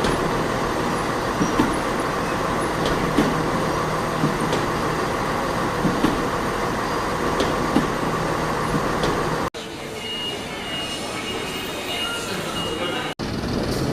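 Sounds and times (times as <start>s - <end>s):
large vehicle running: 0.0s - 10.0s, 12.3s - 13.9s.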